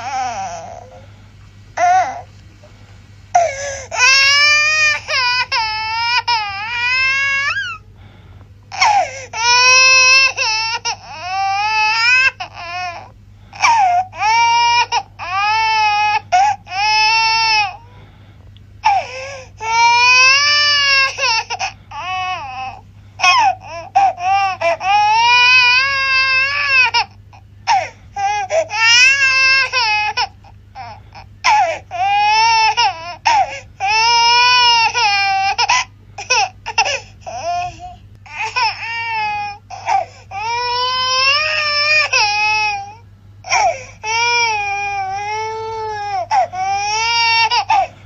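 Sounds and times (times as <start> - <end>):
baby crying: 0.0 - 1.1, 1.8 - 2.3, 3.4 - 7.8, 8.7 - 17.9, 18.8 - 48.0.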